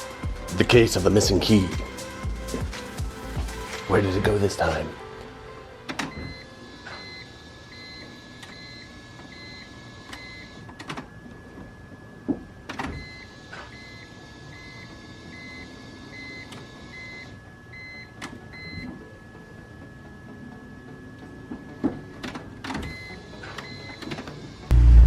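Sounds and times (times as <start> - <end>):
steady high whine: 0.0 - 25.0.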